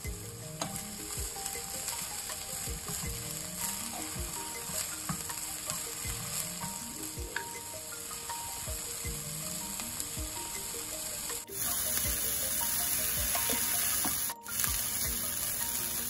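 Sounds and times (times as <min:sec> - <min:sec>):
vegetables sizzling in frying pan: 0:00.0 - 0:16.0.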